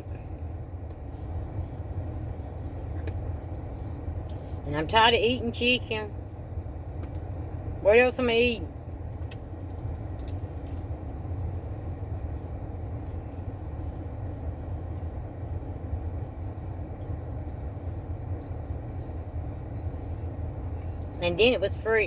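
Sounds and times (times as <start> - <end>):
air conditioner running: 0.0 - 22.0
car engine idling: 0.0 - 22.0.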